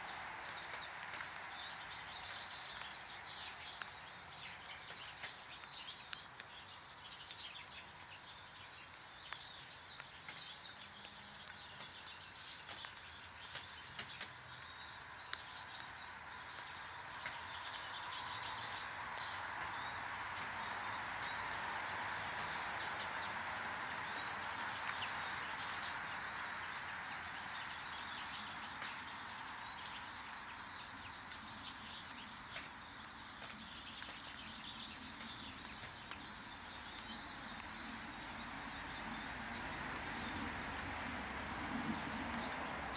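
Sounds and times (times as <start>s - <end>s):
small birds chirping: 0.0s - 42.9s
small clicks and taps: 0.1s - 42.7s.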